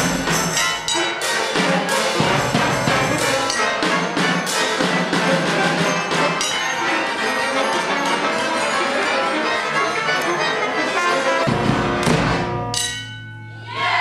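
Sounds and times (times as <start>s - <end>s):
drum percussion: 0.0s - 8.6s, 11.2s - 14.0s
accordion playing held chords: 1.0s - 12.7s.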